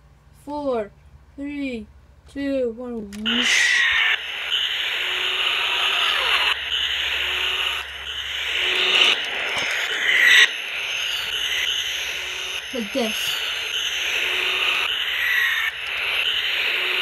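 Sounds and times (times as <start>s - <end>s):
toy jet sound effect: 3.1s - 17.0s.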